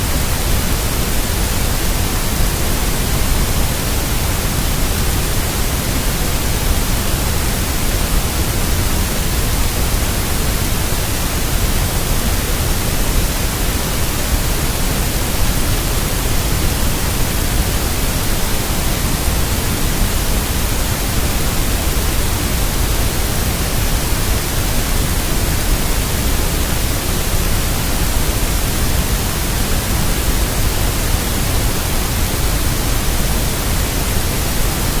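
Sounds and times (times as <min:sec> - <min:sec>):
loud static hiss: 0:00.0 - 0:35.0.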